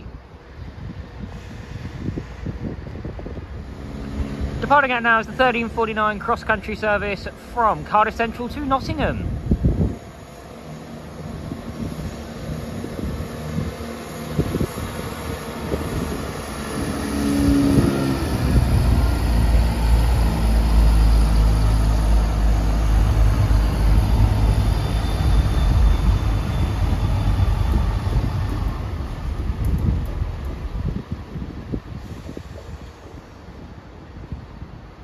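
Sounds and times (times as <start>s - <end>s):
diesel train engines drone: 0.0s - 35.0s.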